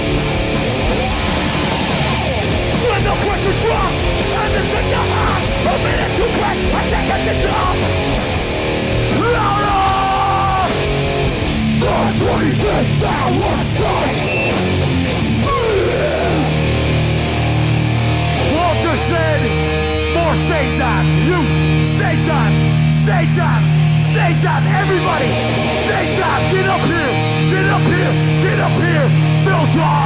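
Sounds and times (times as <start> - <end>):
punk band playing live: 0.0 - 30.0.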